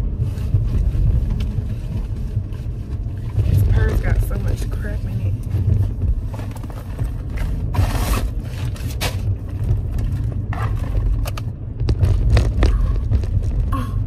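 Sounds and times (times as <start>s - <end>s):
low car cabin rumble: 0.0s - 14.0s.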